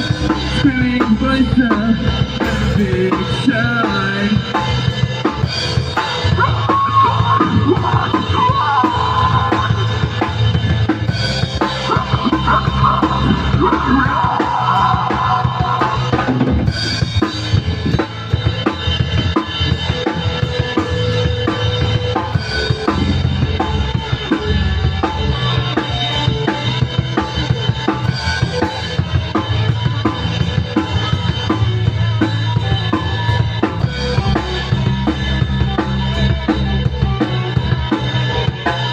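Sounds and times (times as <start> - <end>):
drum kit beat: 0.0 - 38.9
rock band playing: 0.0 - 38.9.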